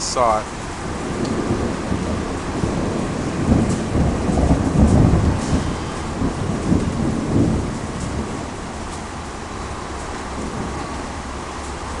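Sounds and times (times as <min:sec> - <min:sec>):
heavy rain: 0:00.0 - 0:12.0
thunder rumbling: 0:00.0 - 0:12.0.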